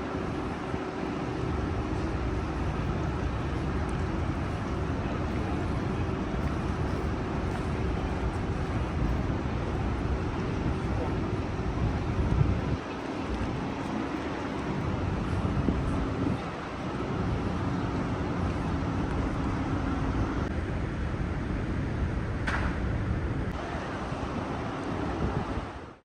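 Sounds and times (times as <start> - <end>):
traffic hum: 0.0 - 25.8.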